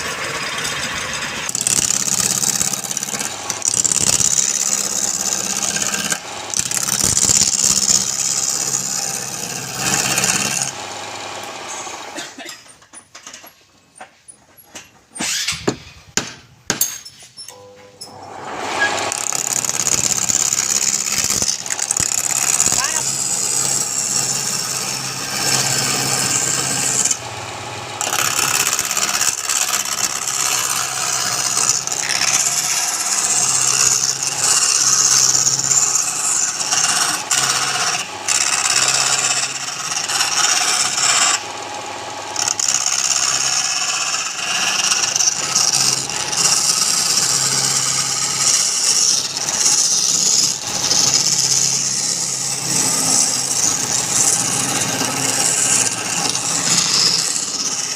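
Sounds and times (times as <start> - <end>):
lathe motor hum: 0.0 - 12.2, 18.1 - 57.9
tool scraping wood on lathe: 0.0 - 13.5, 18.1 - 57.9.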